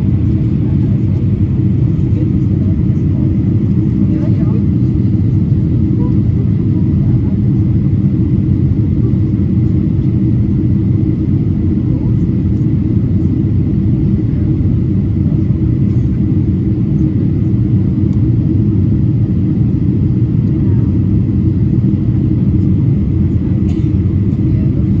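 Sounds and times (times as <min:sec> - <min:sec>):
airliner engines rumbling: 0:00.0 - 0:25.0.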